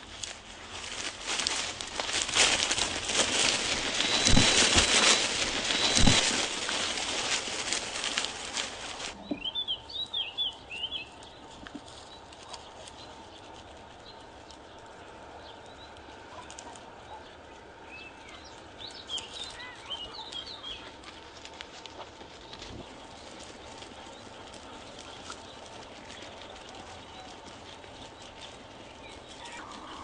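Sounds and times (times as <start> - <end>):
small birds chirping: 0.8 - 30.0.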